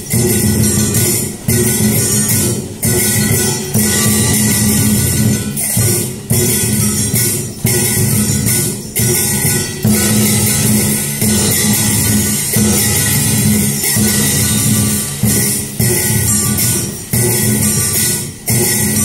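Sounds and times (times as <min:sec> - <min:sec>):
drums: 0:00.0 - 0:19.0
jingling metal percussion: 0:00.0 - 0:19.0
loud percussion stroke: 0:00.0 - 0:19.0
percussion-led traditional music: 0:00.0 - 0:19.0.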